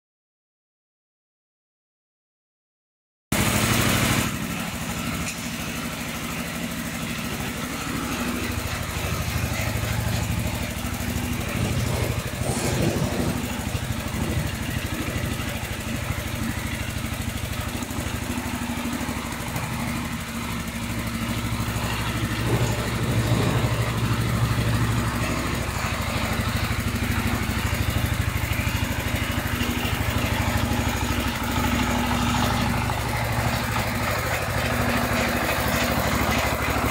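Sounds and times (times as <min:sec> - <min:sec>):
tractor engine running: 0:03.4 - 0:36.9.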